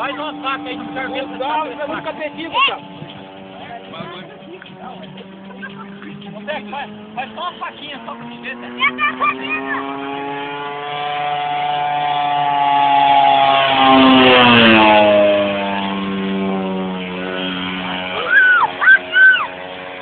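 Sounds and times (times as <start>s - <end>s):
model airplane engine drone: 0.0s - 20.0s.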